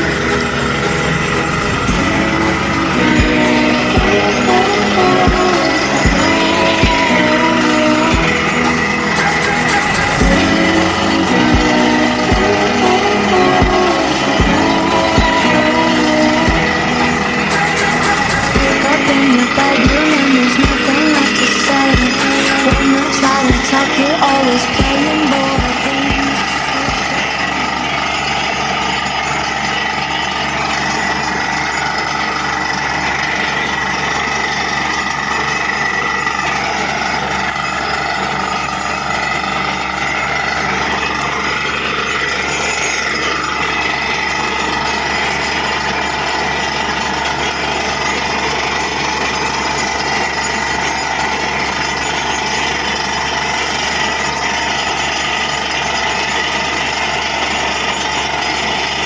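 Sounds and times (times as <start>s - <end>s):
drilling rig rattling: 0.0s - 59.0s.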